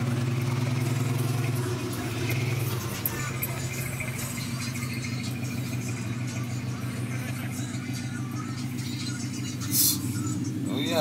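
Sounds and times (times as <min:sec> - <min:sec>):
vehicle engine idling: 0:00.0 - 0:11.0
faint voices: 0:01.4 - 0:11.0.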